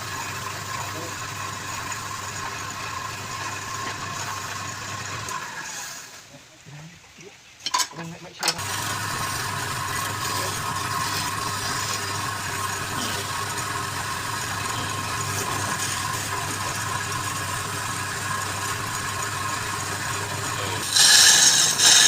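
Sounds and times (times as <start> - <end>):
lathe motor humming: 0.0 - 6.2, 8.6 - 22.0.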